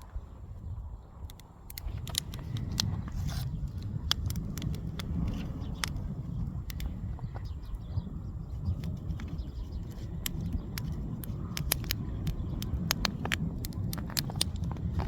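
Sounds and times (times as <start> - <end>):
wind on microphone: 0.0 - 15.0
bonfire crackling and popping: 1.4 - 15.0.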